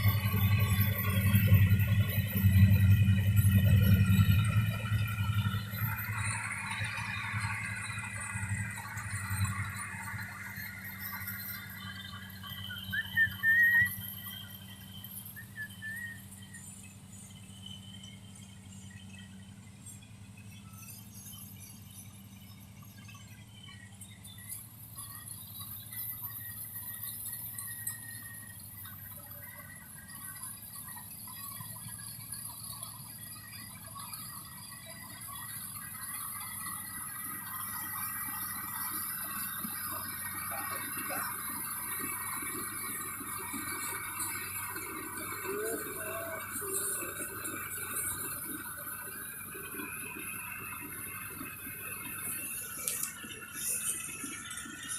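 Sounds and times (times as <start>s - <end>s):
combine harvester engine hum: 0.0s - 54.9s
faint high whine: 0.0s - 54.9s
light clinks and chirps: 0.0s - 54.9s.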